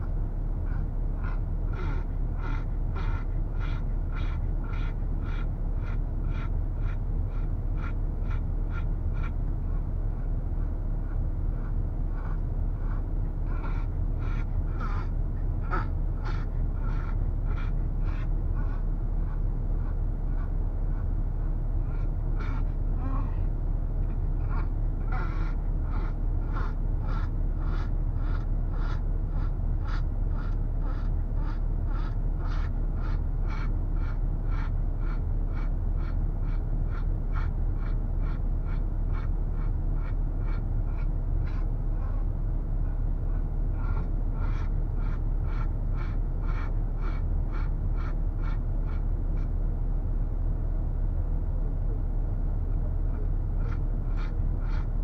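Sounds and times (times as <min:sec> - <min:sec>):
dog panting: 0:00.0 - 0:49.5
car engine drone from inside cabin: 0:00.0 - 0:55.0.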